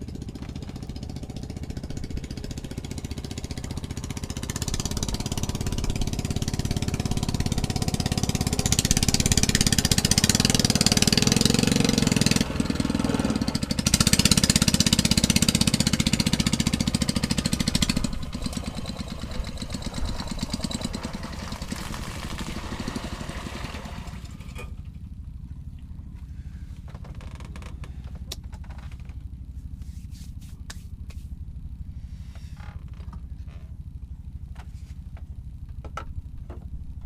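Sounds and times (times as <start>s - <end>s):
small engine running: 0.0s - 29.9s, 30.9s - 37.0s.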